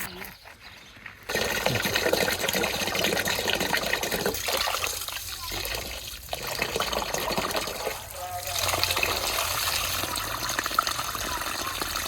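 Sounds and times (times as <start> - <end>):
running water splashing: 1.3 - 12.0.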